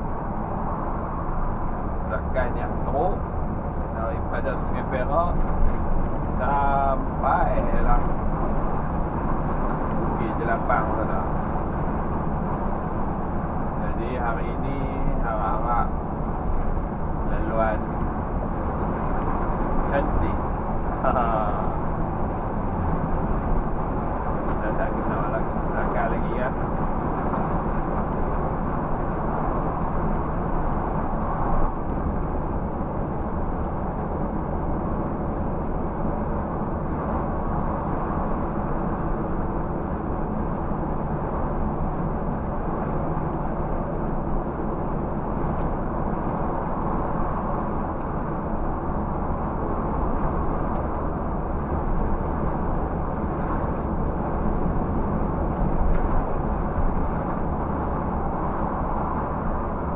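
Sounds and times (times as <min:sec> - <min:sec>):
road noise: 0:00.0 - 0:59.9
truck diesel engine running: 0:00.0 - 0:59.9.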